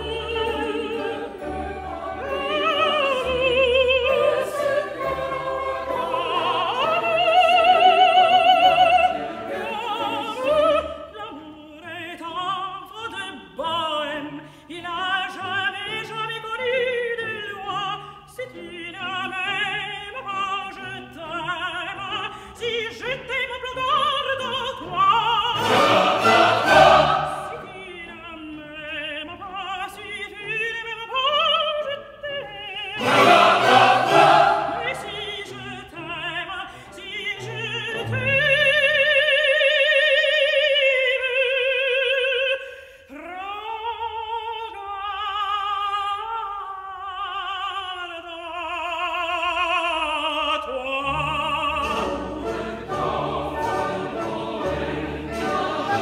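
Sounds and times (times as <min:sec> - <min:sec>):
musical accompaniment: 0:00.0 - 0:40.7, 0:51.0 - 0:56.0
operatic singing with vibrato: 0:00.0 - 0:56.0.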